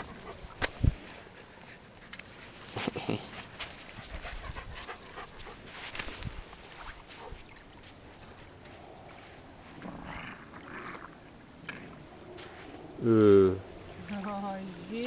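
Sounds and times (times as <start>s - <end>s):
water lapping at shore: 0.0s - 13.0s, 13.6s - 15.0s.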